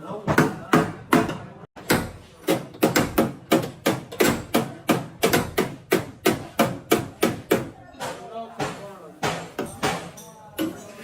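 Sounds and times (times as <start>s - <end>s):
hammer striking sheet metal: 0.3s - 10.9s.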